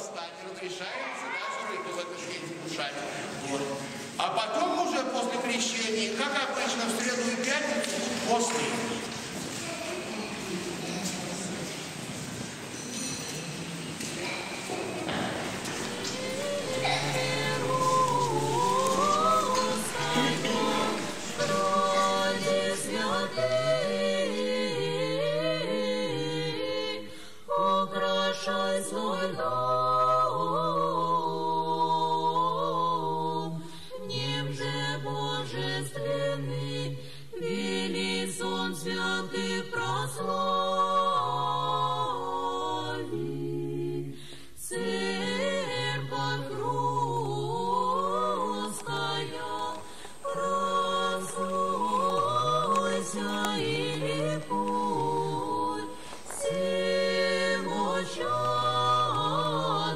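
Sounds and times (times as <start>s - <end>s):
choir singing chant: 0.0s - 59.9s.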